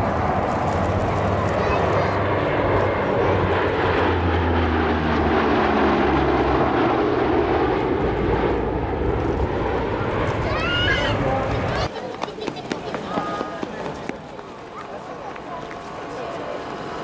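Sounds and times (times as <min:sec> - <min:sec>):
propeller aircraft drone: 0:00.0 - 0:17.0.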